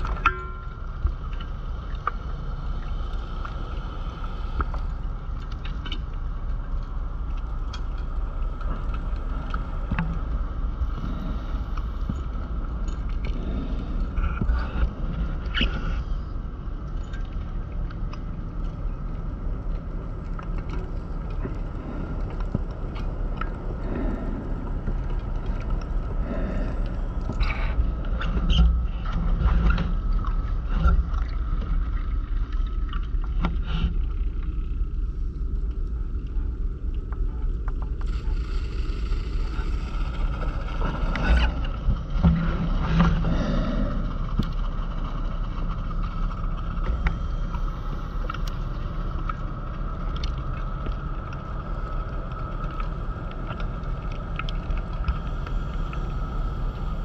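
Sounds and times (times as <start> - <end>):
faint steady hum: 0.0 - 57.0
low underwater rumble: 0.0 - 57.0.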